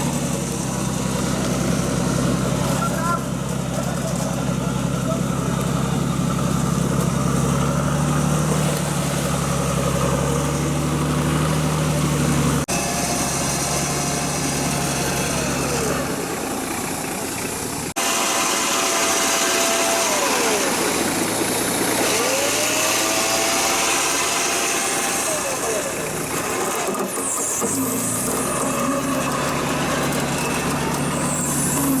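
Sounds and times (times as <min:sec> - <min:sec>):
vehicle engine running: 0:00.0 - 0:32.0
whining tone: 0:04.9 - 0:32.0.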